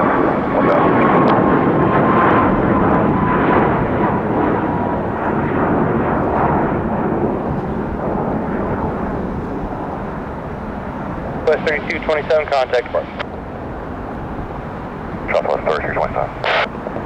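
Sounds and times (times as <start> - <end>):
faint jet whine: 0.0 - 17.0
jet engine roar: 0.0 - 17.0.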